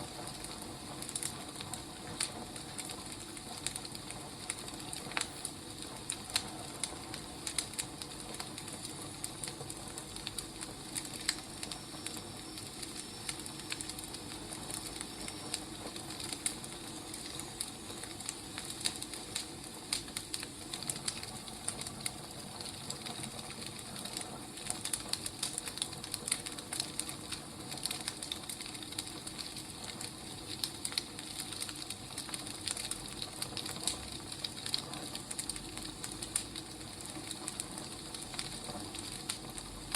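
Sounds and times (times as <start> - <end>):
firewood crackling: 0.0 - 39.9
soft steady hiss: 0.0 - 39.9.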